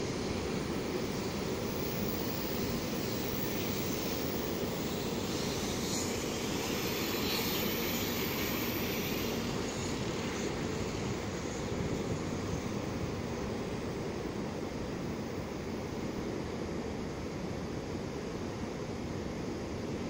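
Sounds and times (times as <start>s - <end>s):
faint high whine: 0.0s - 20.0s
train rushing noise: 0.0s - 20.0s.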